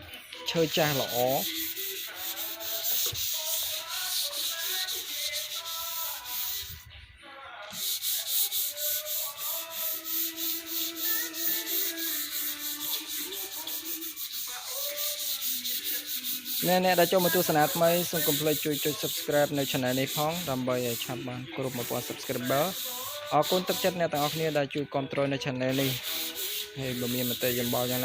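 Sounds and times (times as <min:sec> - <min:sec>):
sandpaper rubbing on wood: 0:00.6 - 0:06.8, 0:07.7 - 0:24.6, 0:25.7 - 0:28.0.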